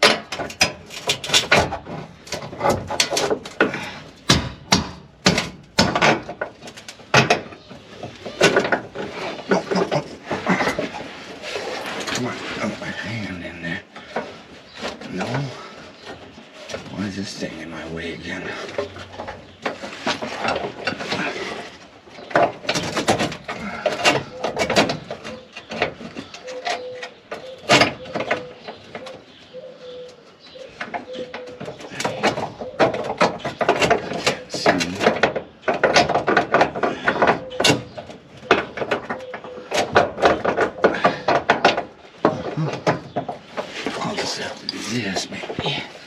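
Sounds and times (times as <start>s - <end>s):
hand tools clanking on metal: 0.0s - 46.0s.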